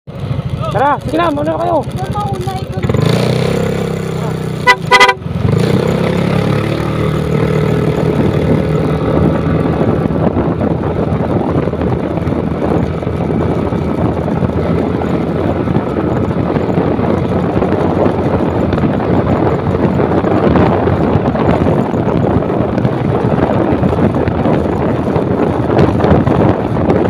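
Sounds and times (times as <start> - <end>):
motorcycle engine running: 0.1 - 27.0
wind rush on microphone: 0.2 - 27.0.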